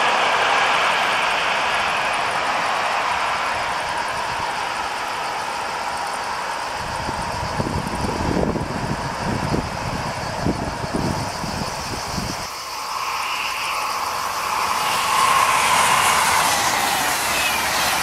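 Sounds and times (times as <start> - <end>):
approaching train hiss: 0.0 - 18.0
freight train low rumble: 0.0 - 18.0
steady hiss: 0.0 - 18.0.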